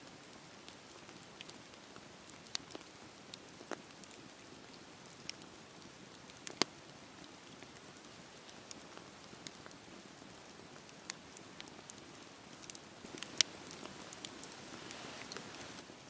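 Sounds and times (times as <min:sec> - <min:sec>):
wood crackling and popping: 0:00.0 - 0:16.0
campfire hissing: 0:00.1 - 0:16.0.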